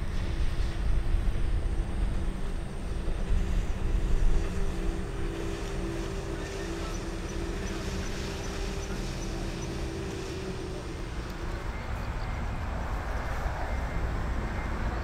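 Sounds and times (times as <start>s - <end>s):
low uneven rumble: 0.0s - 15.0s
steady engine hum: 0.0s - 15.0s.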